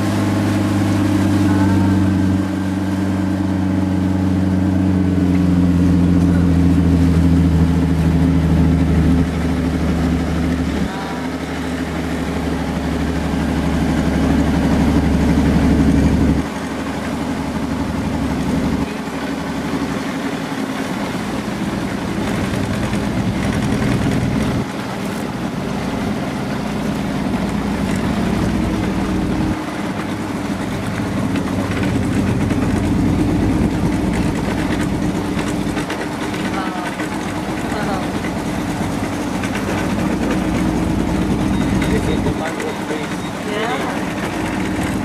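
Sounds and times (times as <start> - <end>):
motor engine droning: 0.0 - 45.0.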